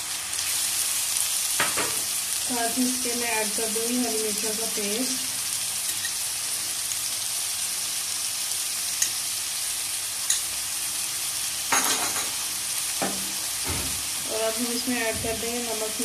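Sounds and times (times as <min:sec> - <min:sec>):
onions and tomatoes sizzling in oil: 0:00.0 - 0:16.0.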